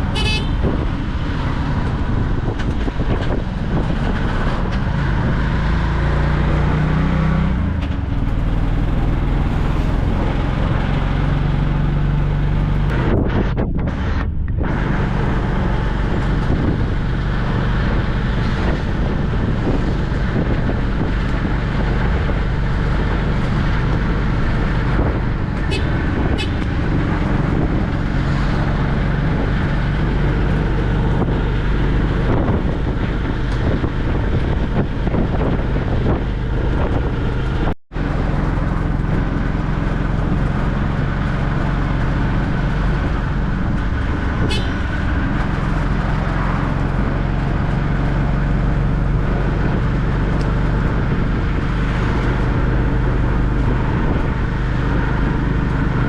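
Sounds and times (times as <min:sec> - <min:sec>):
auto-rickshaw engine running: 0:00.0 - 0:56.0
road traffic: 0:00.0 - 0:56.0.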